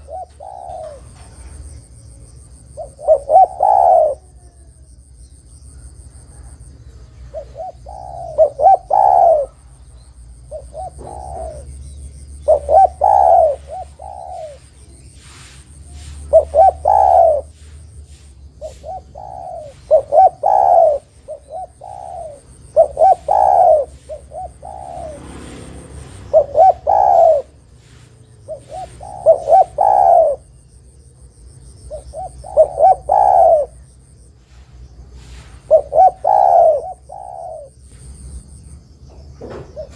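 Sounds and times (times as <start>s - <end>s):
dove cooing: 0.0s - 4.9s, 5.8s - 38.2s, 39.4s - 39.9s.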